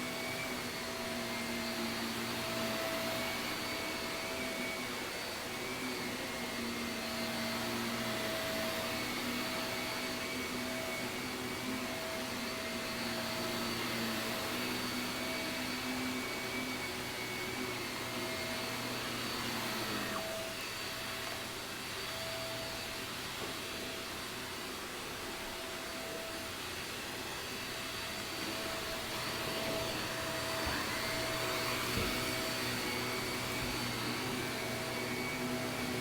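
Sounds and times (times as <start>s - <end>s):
upright vacuum cleaner on carpet: 0.0s - 36.0s.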